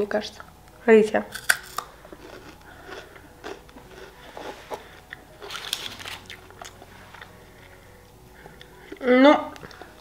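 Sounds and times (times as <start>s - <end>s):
crunching and chewing candy: 1.3s - 10.0s.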